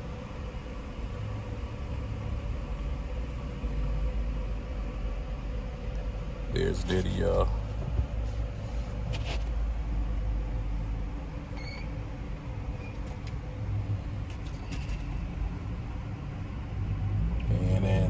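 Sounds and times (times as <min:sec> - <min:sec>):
engine idling cabin rumble: 0:00.0 - 0:18.0.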